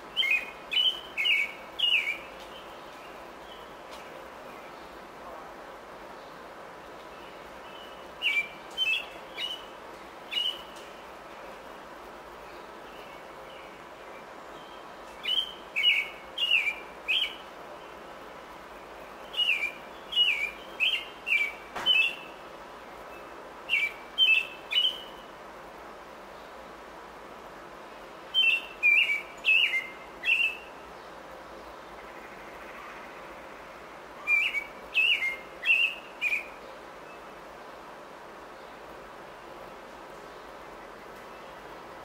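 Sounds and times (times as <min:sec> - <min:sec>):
songbird chirping: 0:00.0 - 0:42.0.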